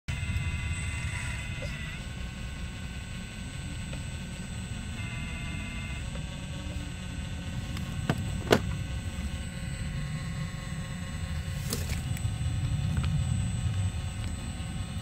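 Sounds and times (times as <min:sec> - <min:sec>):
model excavator motor running: 0:00.1 - 0:15.0.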